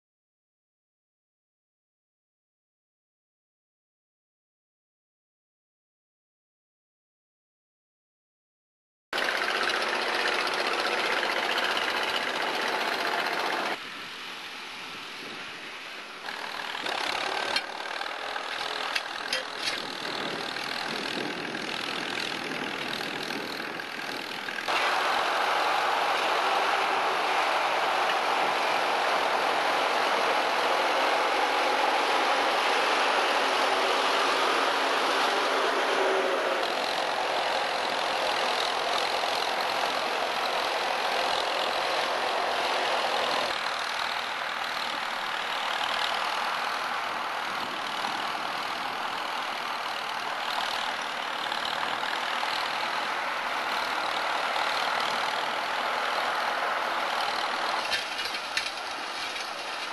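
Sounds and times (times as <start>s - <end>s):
tractor engine running: 9.2s - 13.8s, 16.2s - 59.9s.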